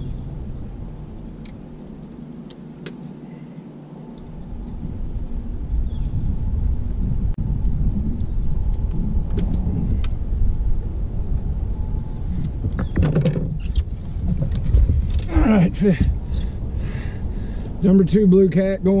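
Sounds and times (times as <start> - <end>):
boat engine low rumble: 0.0 - 19.0.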